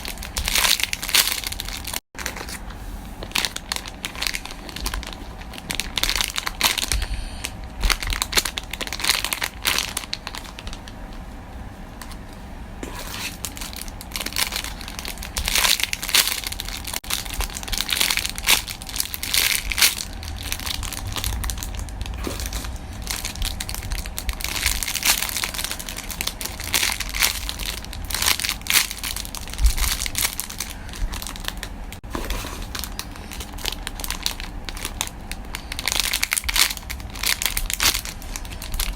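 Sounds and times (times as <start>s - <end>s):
plastic packaging crinkling: 0.0s - 11.2s, 12.0s - 38.9s.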